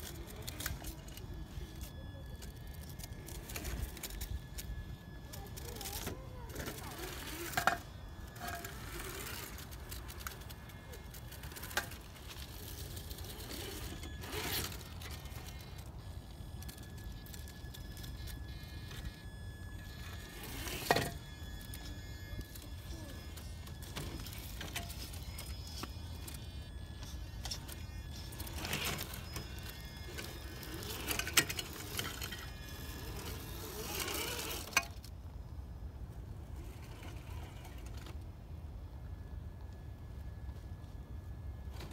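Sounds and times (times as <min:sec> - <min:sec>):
electric motor and drivetrain whining: 0:00.0 - 0:41.9.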